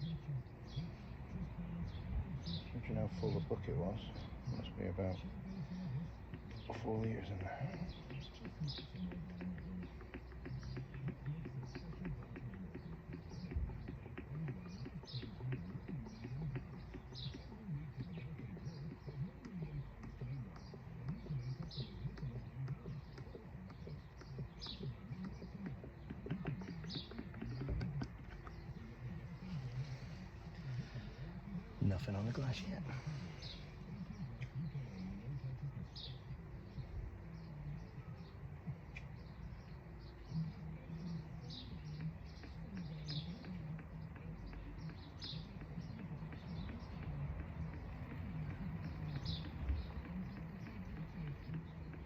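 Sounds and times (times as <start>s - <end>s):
bird chirping: 0.0s - 52.0s.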